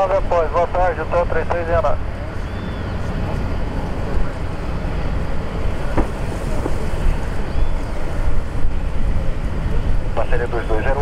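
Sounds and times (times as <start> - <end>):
turboprop engines and propellers: 0.0 - 11.0
wind buffeting microphone: 1.8 - 11.0.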